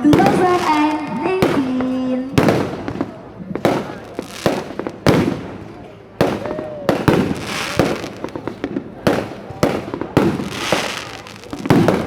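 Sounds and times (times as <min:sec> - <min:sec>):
fireworks crackling and hissing: 0:00.0 - 0:12.0
fireworks exploding: 0:00.0 - 0:12.0.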